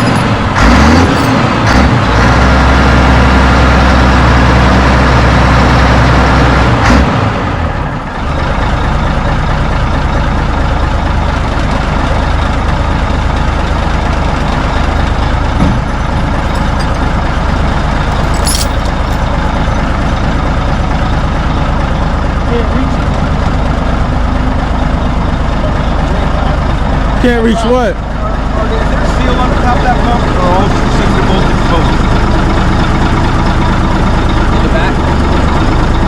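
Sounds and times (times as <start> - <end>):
diesel truck engine droning: 0.0 - 36.0.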